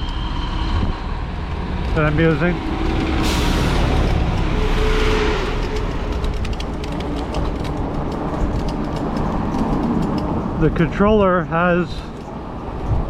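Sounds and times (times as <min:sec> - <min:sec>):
bike road rumble: 0:00.0 - 0:13.0
wind: 0:00.0 - 0:13.0.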